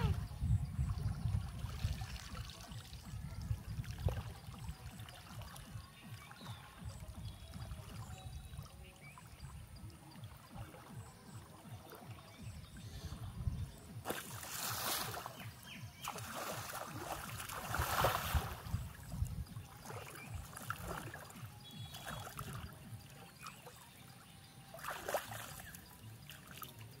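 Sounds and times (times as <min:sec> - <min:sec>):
muddy water sloshing and splashing: 0:00.0 - 0:27.0.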